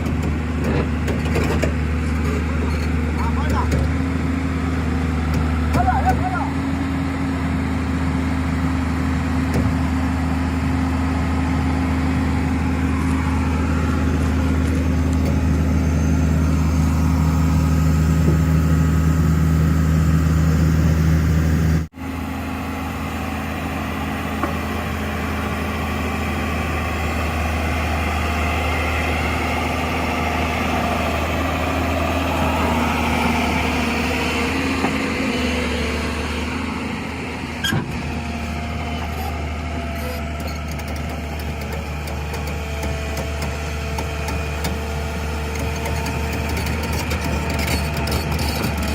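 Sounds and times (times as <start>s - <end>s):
heavy diesel engine running: 0.0s - 48.9s
steady engine sound: 0.0s - 48.9s.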